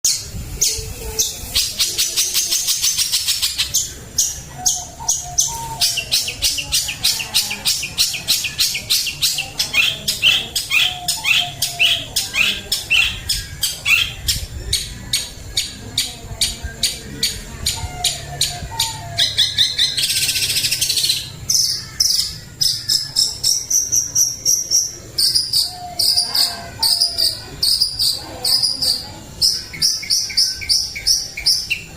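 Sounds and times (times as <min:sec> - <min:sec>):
bird chattering song: 0:00.1 - 0:31.9.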